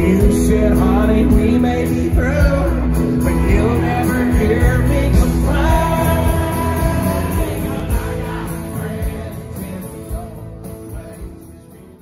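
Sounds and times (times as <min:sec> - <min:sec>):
music with singer: 0:00.0 - 0:12.0.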